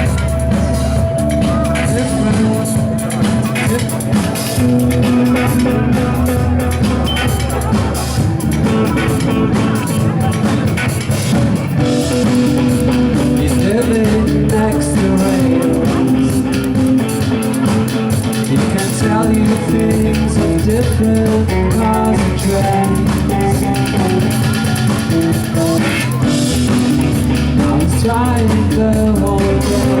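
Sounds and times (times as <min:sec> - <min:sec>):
bass guitar: 0:00.0 - 0:30.0
drum kit: 0:00.0 - 0:30.0
electric guitar: 0:00.0 - 0:30.0.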